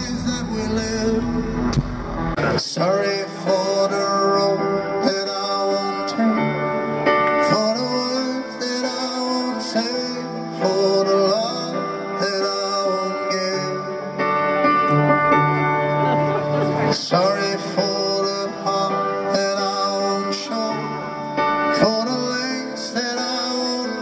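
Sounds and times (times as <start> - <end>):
song with vocals guitar and beat: 0.0 - 24.0.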